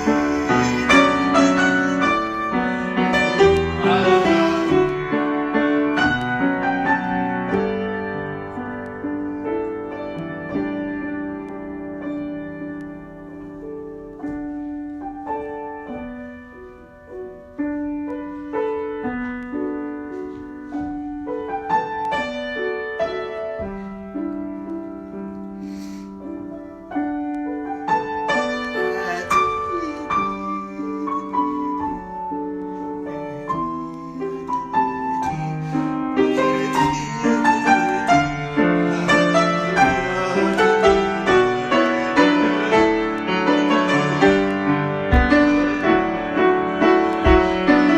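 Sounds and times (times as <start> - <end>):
solo piano improvisation: 0.0 - 47.9.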